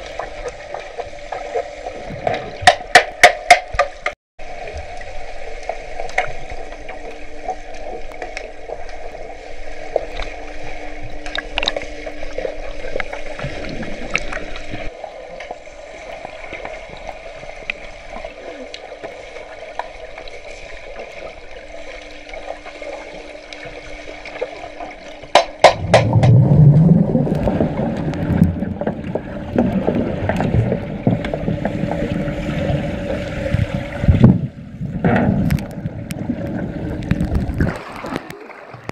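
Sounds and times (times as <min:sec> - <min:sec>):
rumbling and gurgling water: 0:00.0 - 0:38.9
faint steady hum: 0:03.8 - 0:37.8.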